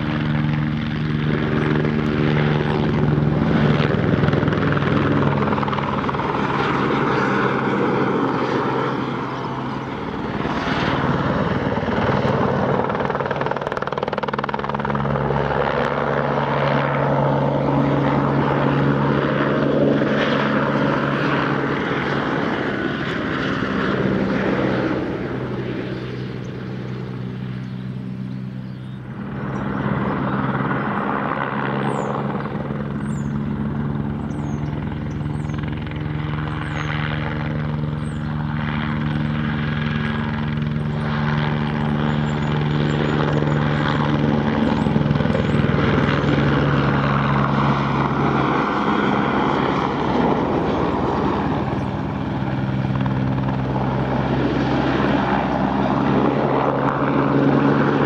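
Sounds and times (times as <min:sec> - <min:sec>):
helicopter engine and rotors: 0:00.0 - 0:58.0.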